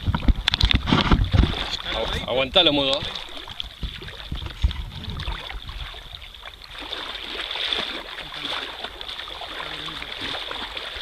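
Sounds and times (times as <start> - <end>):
seawater splashing around waders: 0.0 - 11.0.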